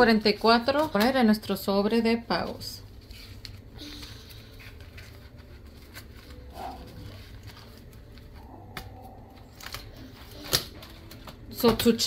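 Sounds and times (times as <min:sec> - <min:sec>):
plastic envelope crinkling: 0:00.0 - 0:11.6
low steady hum: 0:00.0 - 0:12.0
paper bills rustling: 0:00.0 - 0:12.0.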